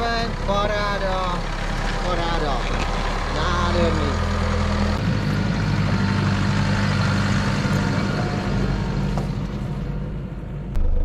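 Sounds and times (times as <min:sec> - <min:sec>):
tyres rumbling on rough track: 0:00.0 - 0:11.0
vehicle engine running: 0:00.0 - 0:11.0.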